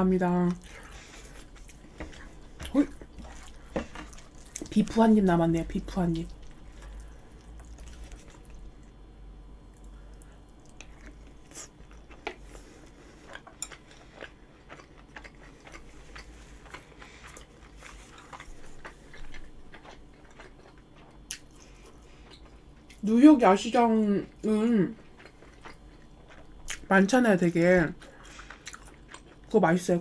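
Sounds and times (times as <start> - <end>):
person chewing food: 0.4 - 5.0, 6.2 - 9.0, 9.6 - 23.0, 24.9 - 26.9, 28.0 - 29.6.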